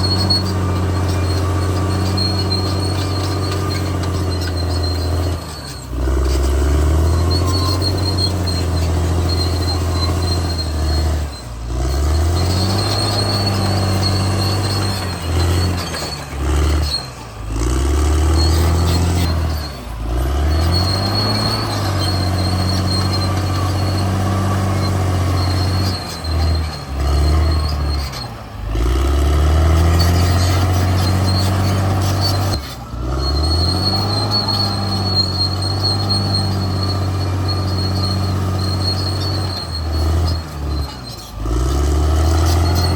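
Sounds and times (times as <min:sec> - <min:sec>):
bulldozer diesel engine under load: 0:00.0 - 0:42.9
steel tracks squealing: 0:00.0 - 0:42.9.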